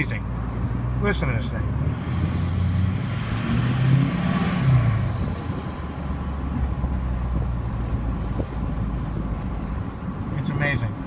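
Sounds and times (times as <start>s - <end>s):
diesel engine revving: 0.4s - 10.0s.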